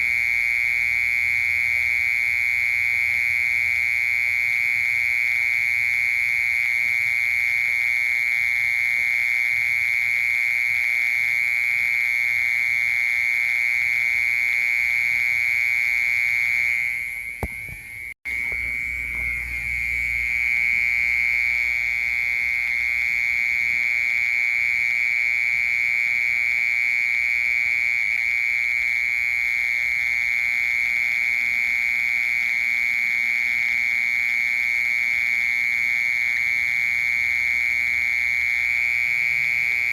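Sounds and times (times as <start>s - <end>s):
cricket buzzing trill: 0.0s - 39.9s.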